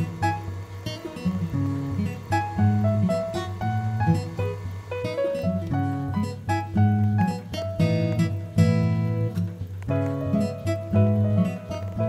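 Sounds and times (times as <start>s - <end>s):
acoustic guitar melody with bass: 0.0s - 12.0s.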